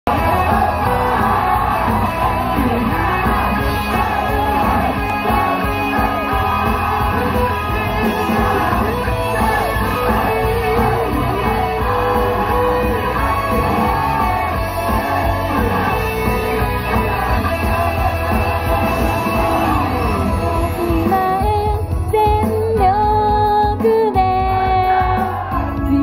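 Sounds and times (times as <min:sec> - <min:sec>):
pop song over stage speakers: 0:00.0 - 0:26.0.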